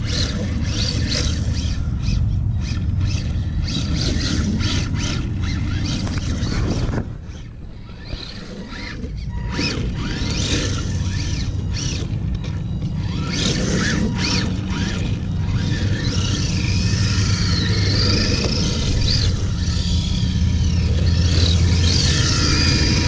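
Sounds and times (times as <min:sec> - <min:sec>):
electric motor whining: 0:00.0 - 0:23.0
steady low rumble: 0:00.0 - 0:23.0.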